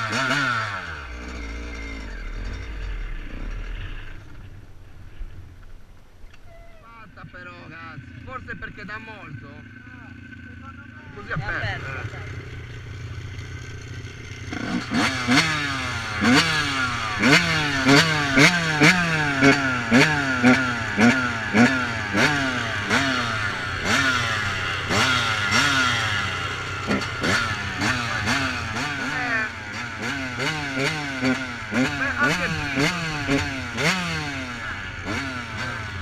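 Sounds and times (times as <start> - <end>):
two-stroke engine revving in blips: 0.0 - 4.6, 7.1 - 36.0
engine idling: 0.0 - 36.0.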